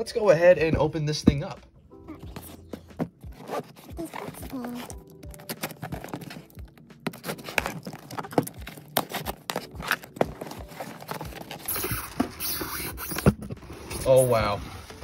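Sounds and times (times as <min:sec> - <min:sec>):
cardboard box being opened: 0:02.1 - 0:15.0
cardboard rustle: 0:02.1 - 0:15.0.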